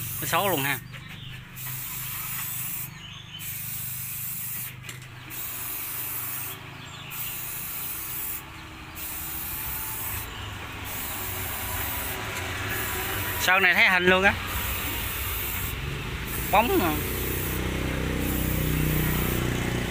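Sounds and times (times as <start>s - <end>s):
spray-paint can hissing: 1.4s - 19.9s.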